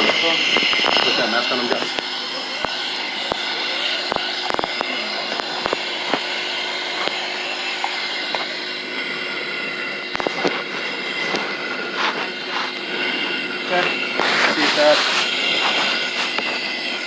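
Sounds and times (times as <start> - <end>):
mechanical hiss and hum: 0.0 - 17.0.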